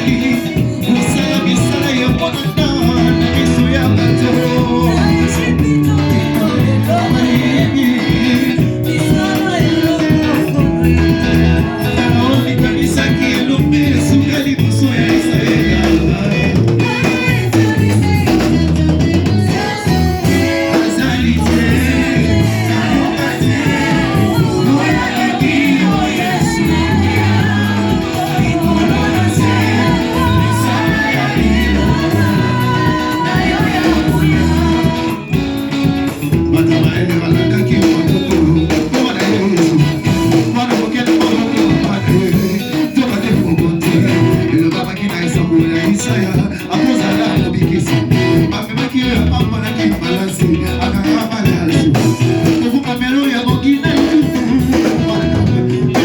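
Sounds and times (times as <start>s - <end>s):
band playing praise music: 0.0s - 56.0s
people singing: 0.0s - 56.0s.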